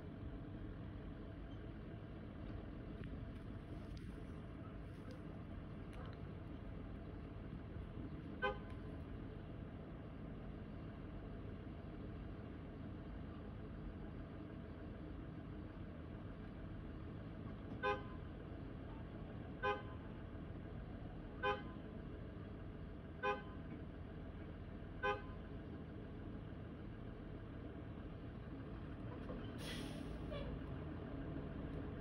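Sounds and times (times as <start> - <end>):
diesel bus idling: 0.0 - 32.0.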